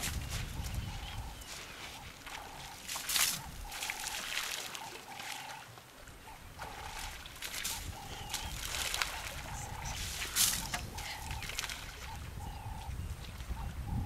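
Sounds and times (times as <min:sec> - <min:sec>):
water splashing and trickling: 0:00.0 - 0:13.9.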